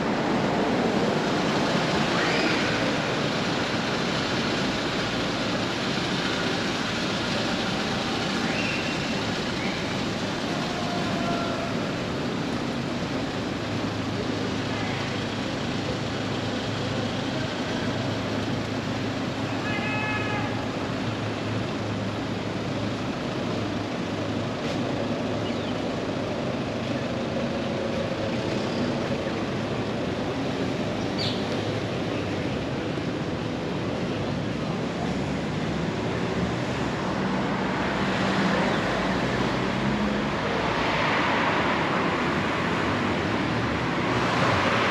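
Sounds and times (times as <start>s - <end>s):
traffic noise: 0.0s - 44.9s.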